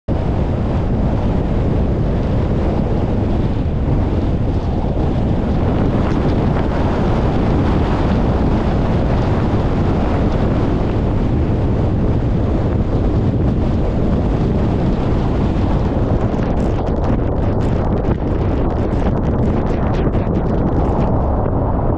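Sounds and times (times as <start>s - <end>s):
wind blowing across microphone: 0.1s - 21.9s.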